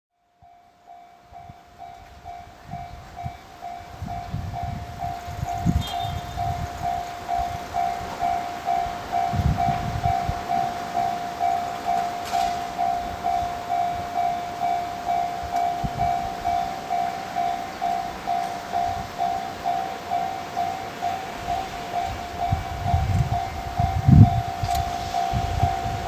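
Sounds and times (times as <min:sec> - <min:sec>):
level-crossing alarm ringing: 0:00.4 - 0:26.0.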